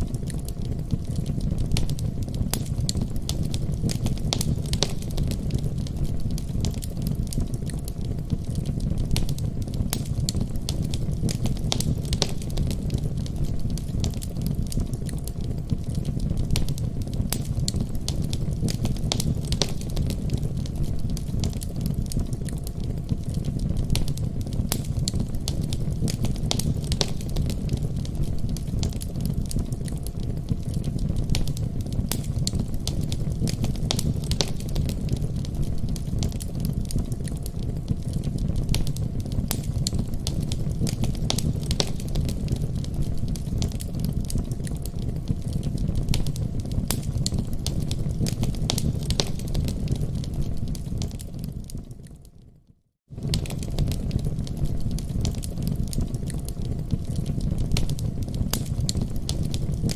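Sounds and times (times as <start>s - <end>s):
fire crackling and popping: 0.0s - 59.9s
low fire rumble: 0.0s - 59.9s.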